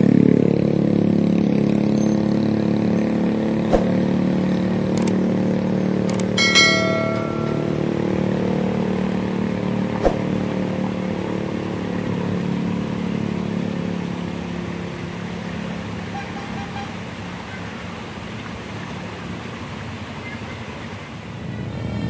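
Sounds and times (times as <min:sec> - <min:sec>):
bus engine driving past: 0:00.0 - 0:19.2.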